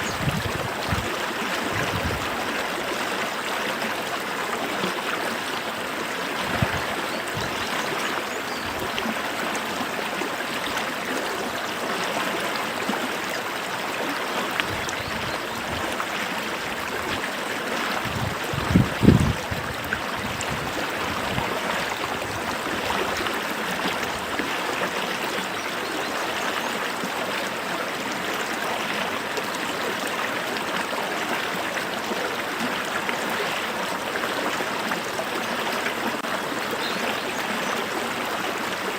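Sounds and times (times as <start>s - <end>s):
stream water gurgling: 0.0s - 38.9s.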